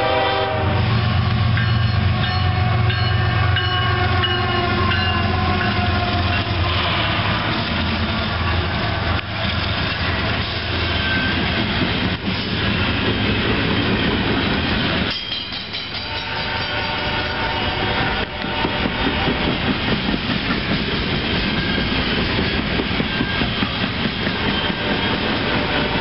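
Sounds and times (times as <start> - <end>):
locomotive engines droning: 0.0 - 26.0
train cars rumbling past: 0.0 - 26.0.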